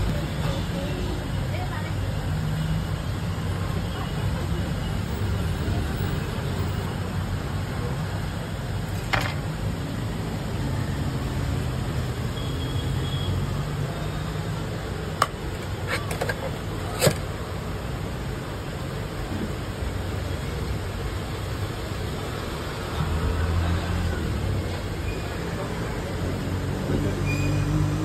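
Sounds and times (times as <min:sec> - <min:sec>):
street traffic rumble: 0:00.0 - 0:28.0.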